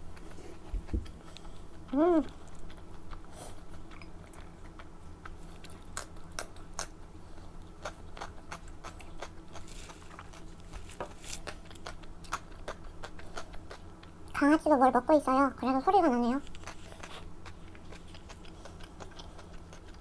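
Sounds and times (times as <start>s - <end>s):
chewing and biting: 0.1s - 14.4s, 16.4s - 20.0s.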